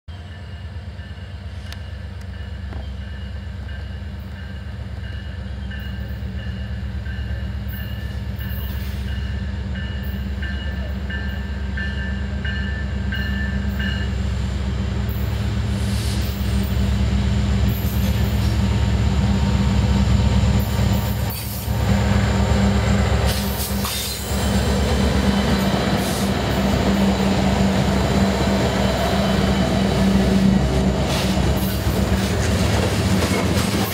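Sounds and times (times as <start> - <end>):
diesel locomotive engine rumble: 0.1 - 33.9.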